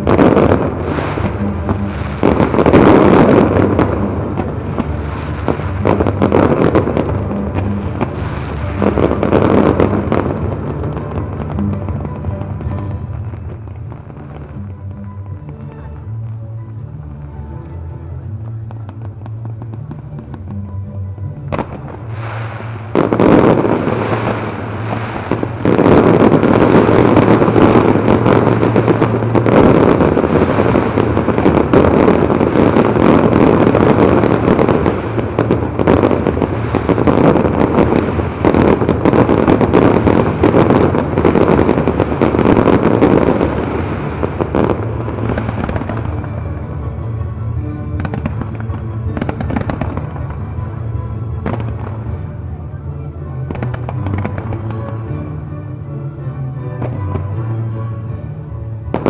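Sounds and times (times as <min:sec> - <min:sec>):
fireworks bangs and crackling: 0:00.0 - 0:59.0
music: 0:00.0 - 0:59.0.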